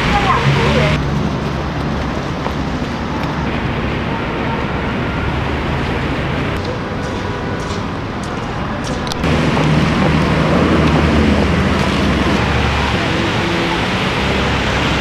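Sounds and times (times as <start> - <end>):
loud low engine rumble: 0.0 - 15.0
street traffic rumble: 0.0 - 15.0.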